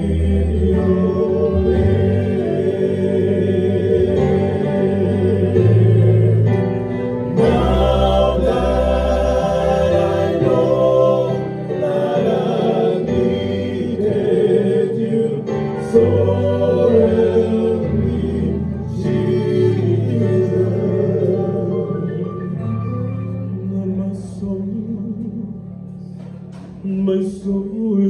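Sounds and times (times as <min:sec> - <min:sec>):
male vocal group singing in harmony: 0:00.0 - 0:25.6, 0:26.7 - 0:28.0.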